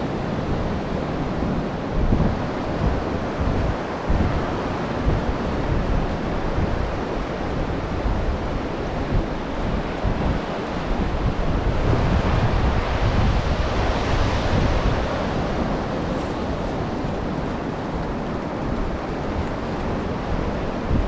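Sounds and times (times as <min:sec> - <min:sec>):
surf washing onto beach: 0:00.0 - 0:21.0
wind rumbling on microphone: 0:00.0 - 0:21.0.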